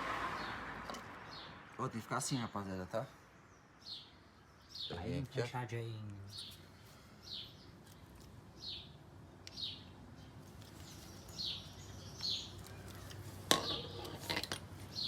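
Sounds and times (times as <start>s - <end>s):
bird chirping: 1.2s - 5.6s, 6.2s - 15.0s.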